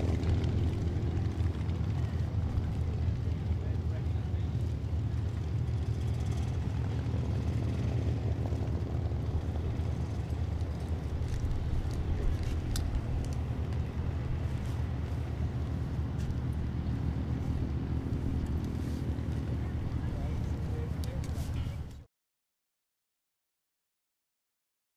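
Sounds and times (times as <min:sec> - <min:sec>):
propeller plane engines droning: 0:00.0 - 0:22.1.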